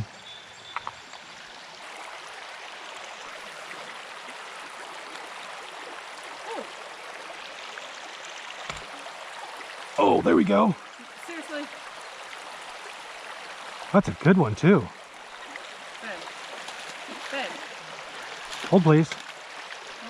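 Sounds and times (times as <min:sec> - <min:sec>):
creek water rushing over rocks: 0:00.8 - 0:20.0.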